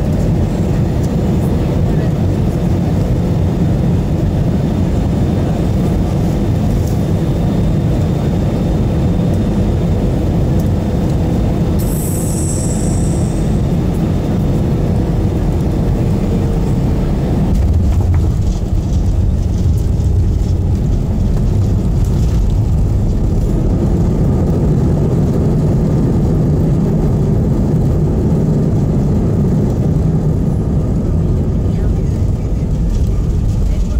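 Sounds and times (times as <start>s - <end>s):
jet engines and wheels rumbling: 0.0s - 33.9s.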